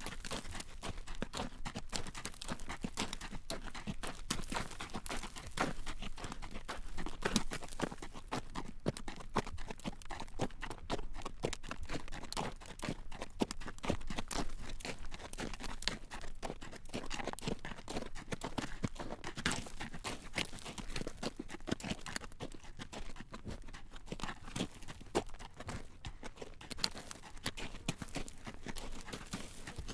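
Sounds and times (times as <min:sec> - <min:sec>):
horse hooves clip-clopping on road: 0:00.0 - 0:29.9.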